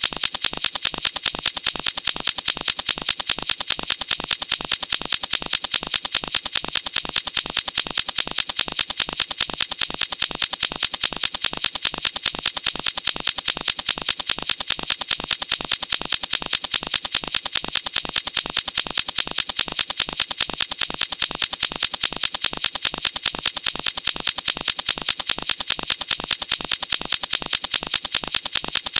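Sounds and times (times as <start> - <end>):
fidget toy clicking rapidly: 0.0 - 28.9.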